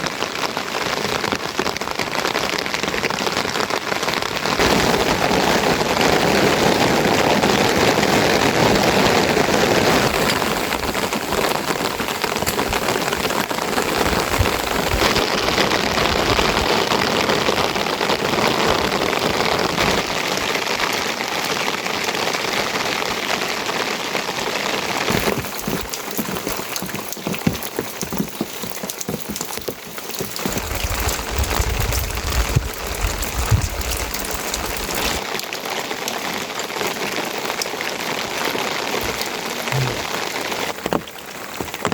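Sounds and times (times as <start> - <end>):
rain pattering on surfaces: 0.0 - 41.9.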